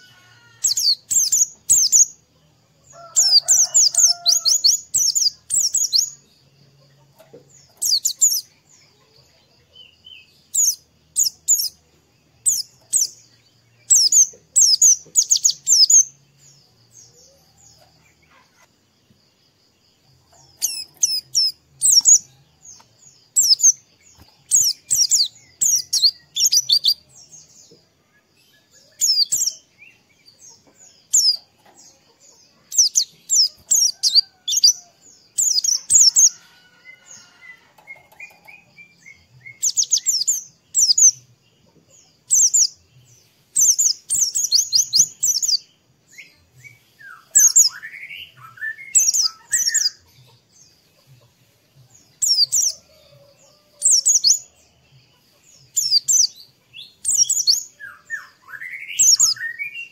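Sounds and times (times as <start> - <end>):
bird singing high chirps: 0.0 - 2.2, 2.8 - 17.9, 20.3 - 41.3, 42.2 - 42.9, 43.5 - 50.4, 52.0 - 54.8, 55.6 - 59.9.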